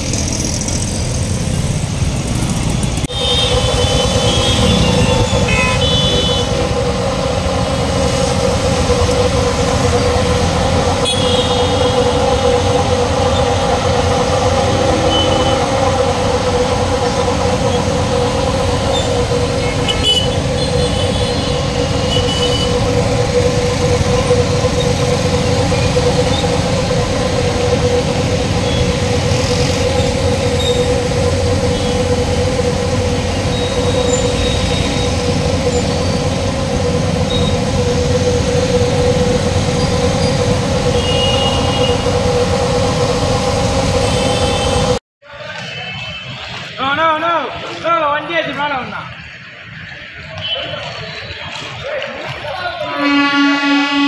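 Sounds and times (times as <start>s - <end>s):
sewer jet machine rumbling and whining: 0.0s - 45.0s.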